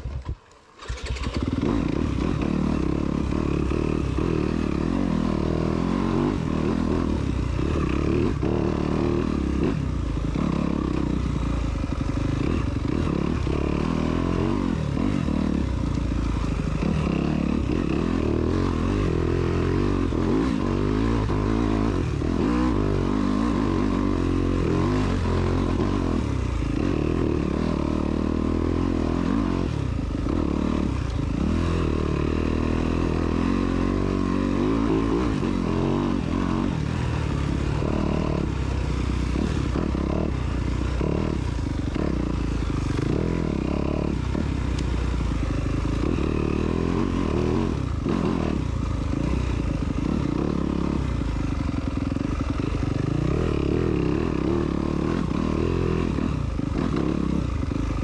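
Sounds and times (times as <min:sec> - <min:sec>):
off-road motorcycle engine revving: 0:00.0 - 0:58.0.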